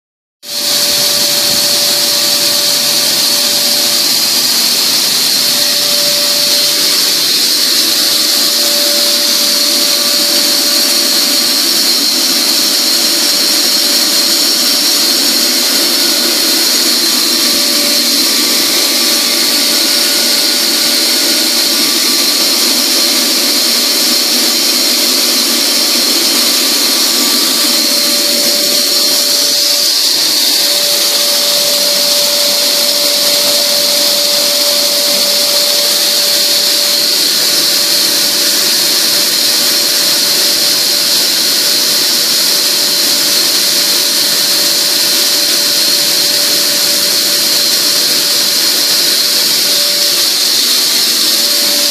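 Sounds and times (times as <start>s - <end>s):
blower fan rushing air: 0.5s - 51.9s
motor whine: 0.5s - 51.9s.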